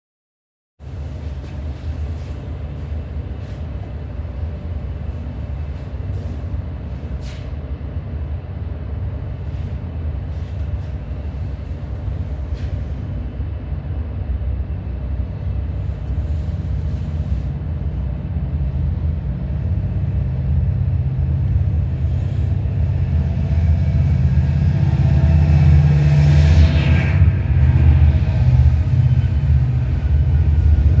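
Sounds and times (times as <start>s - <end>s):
diesel locomotive engine rumble: 0.8s - 31.0s.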